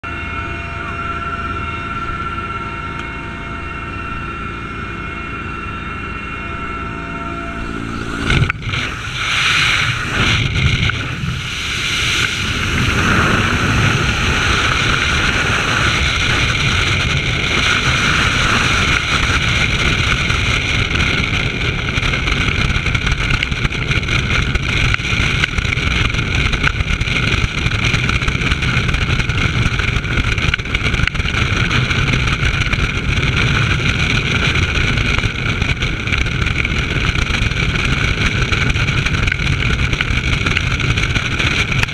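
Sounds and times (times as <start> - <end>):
wind rushing over camera: 7.5 - 41.9.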